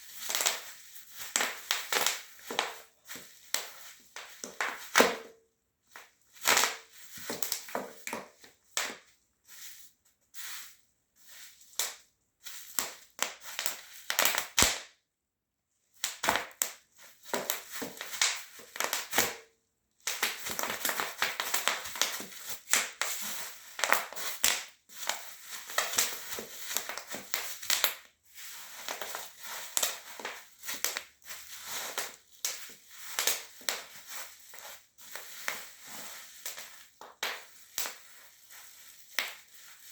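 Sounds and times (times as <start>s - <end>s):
bubble wrap popping underfoot: 0.0s - 14.9s, 16.0s - 39.9s.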